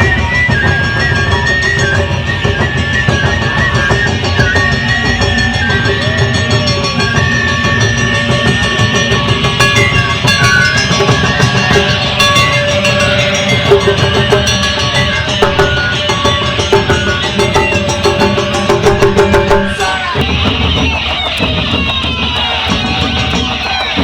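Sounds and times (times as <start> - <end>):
held melody line: 0.0 - 24.0
taiko drum strokes: 0.0 - 24.0.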